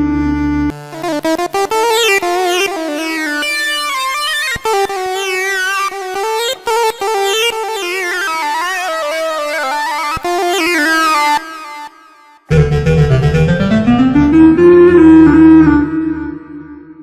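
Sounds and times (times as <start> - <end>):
synthesized lead keyboard melody: 0.0 - 8.9, 9.6 - 17.0.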